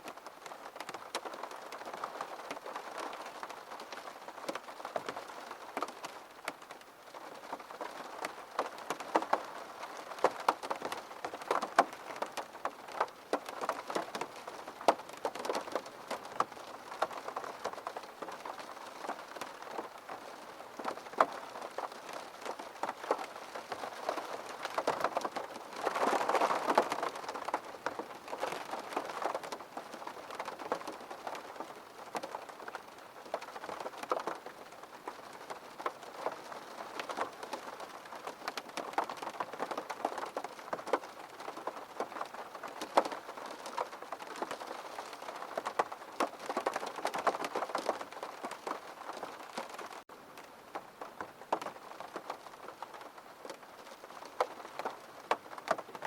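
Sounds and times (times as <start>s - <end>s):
rain pattering on window: 0.0s - 56.0s.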